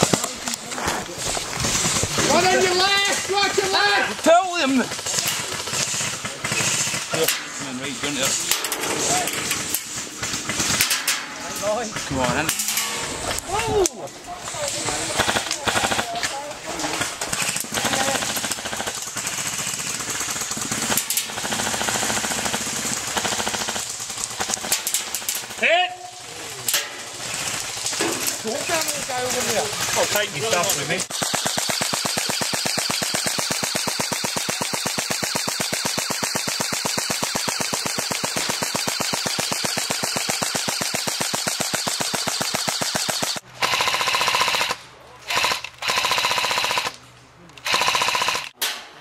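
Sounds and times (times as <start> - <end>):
airsoft guns firing automatic: 0.0 - 0.6, 1.5 - 12.7, 14.6 - 47.0, 47.6 - 48.6.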